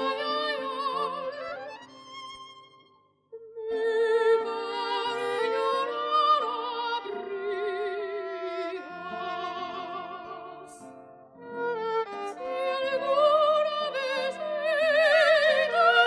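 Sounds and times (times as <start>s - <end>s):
soprano singing: 0.0s - 2.4s, 3.4s - 16.0s
guitar: 0.0s - 16.0s
violin: 0.0s - 16.0s.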